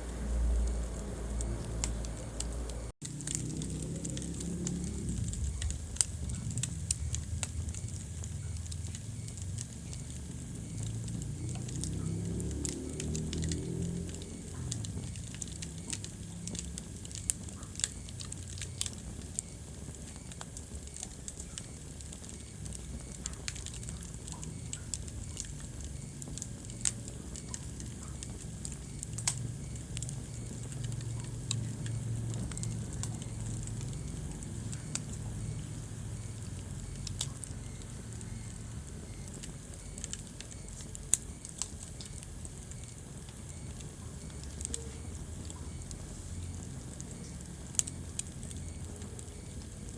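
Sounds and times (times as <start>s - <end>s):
fire crackles and pops: 0.0s - 49.9s
fire flames rumbling: 0.0s - 49.9s.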